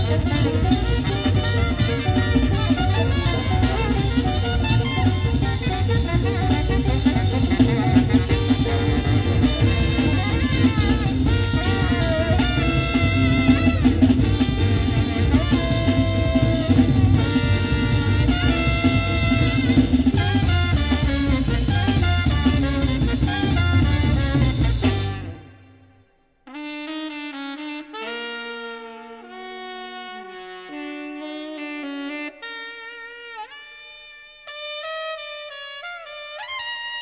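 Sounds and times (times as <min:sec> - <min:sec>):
jazz with drums and brass: 0:00.0 - 0:37.0.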